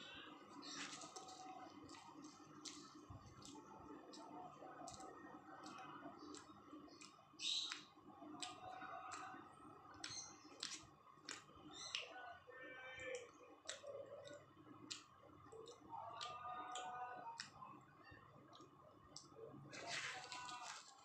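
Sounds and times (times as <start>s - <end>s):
mouth chewing and smacking: 0.5s - 12.4s, 13.0s - 21.0s.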